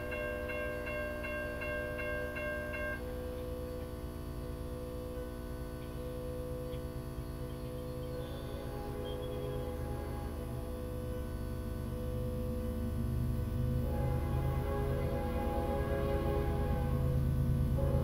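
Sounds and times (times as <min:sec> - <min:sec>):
electrical hum: 0:00.0 - 0:18.0
pulsed ringing tone: 0:00.0 - 0:18.0.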